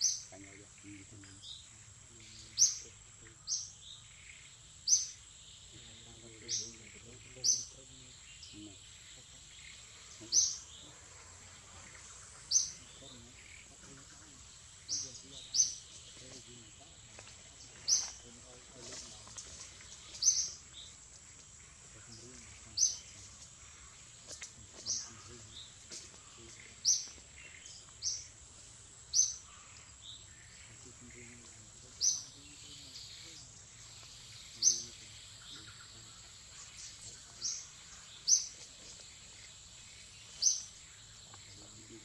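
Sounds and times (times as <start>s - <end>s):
bird chirping: 0.0s - 42.0s.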